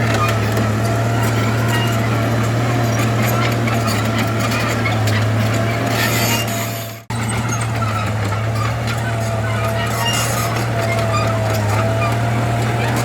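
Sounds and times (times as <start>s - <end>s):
diesel machinery engine hum: 0.0s - 13.0s.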